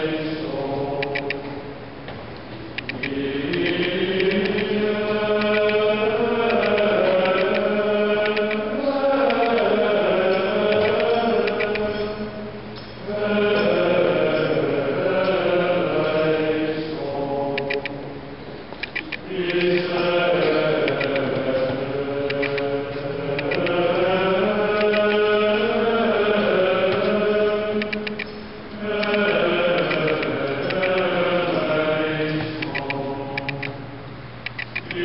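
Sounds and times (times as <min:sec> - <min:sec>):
voices chanting plainchant: 0:00.0 - 0:02.0, 0:02.6 - 0:34.1, 0:34.8 - 0:35.0.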